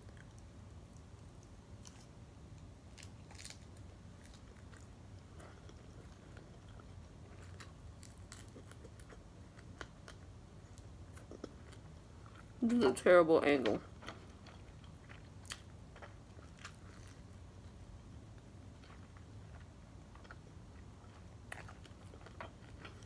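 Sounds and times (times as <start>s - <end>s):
chewing and crunching food: 0.0s - 12.6s, 13.6s - 23.0s.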